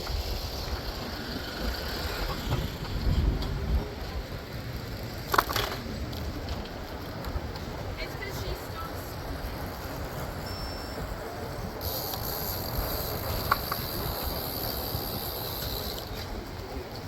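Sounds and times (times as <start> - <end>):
road noise: 0.0 - 17.0
wind rumble: 0.0 - 17.0.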